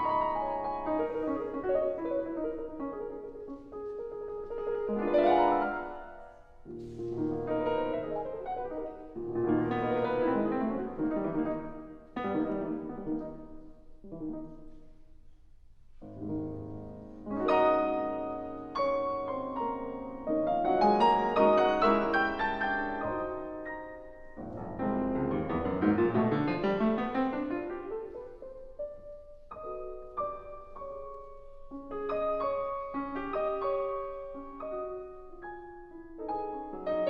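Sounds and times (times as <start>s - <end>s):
solo classical piano: 0.0s - 37.0s.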